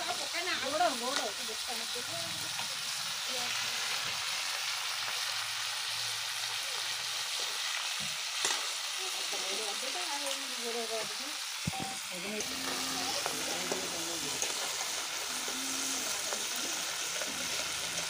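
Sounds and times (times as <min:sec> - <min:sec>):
crabs sizzling in hot oil: 0:00.0 - 0:18.0.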